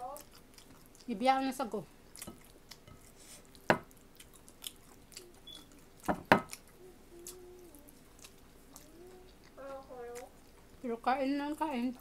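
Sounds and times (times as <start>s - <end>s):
quiet chewing: 0.0s - 1.2s, 2.0s - 10.8s.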